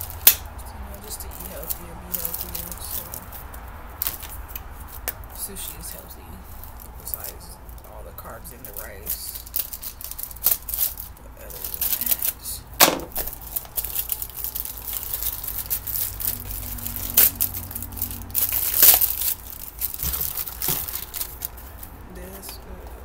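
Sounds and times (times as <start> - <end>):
plastic packaging crinkling and tearing: 0.0 - 22.7.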